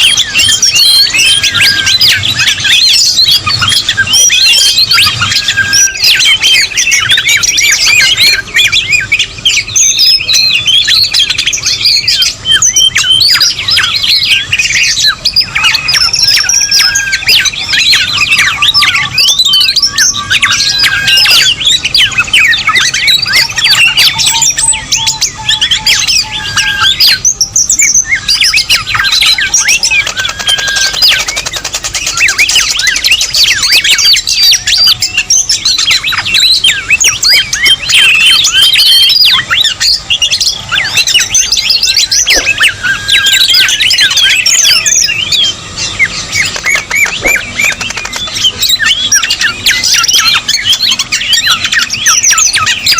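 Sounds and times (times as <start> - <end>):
chorus of bird chirps and squawks: 0.0 - 52.9.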